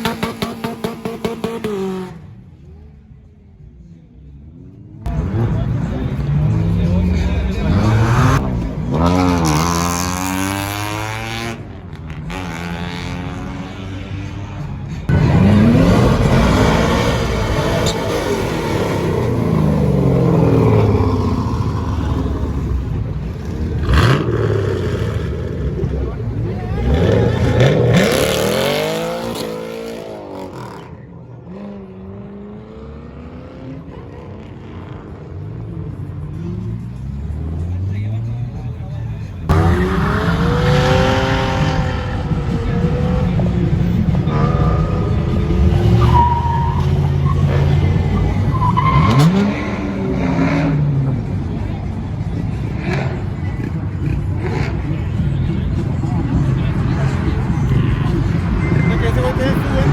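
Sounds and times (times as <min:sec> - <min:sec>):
car engine revving: 0:04.6 - 0:59.9.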